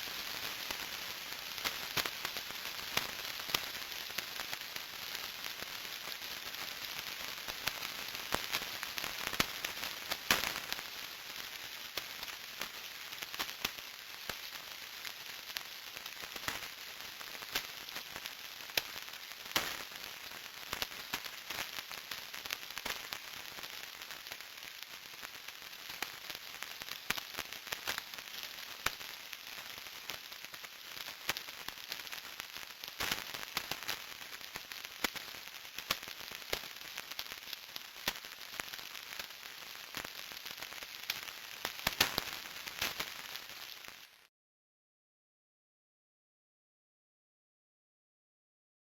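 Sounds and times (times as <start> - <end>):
radio static hiss and pops: 0.0 - 44.3.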